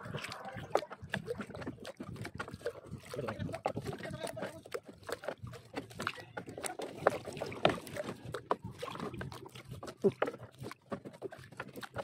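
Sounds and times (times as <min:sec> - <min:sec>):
seawater splashing: 0:00.0 - 0:12.0.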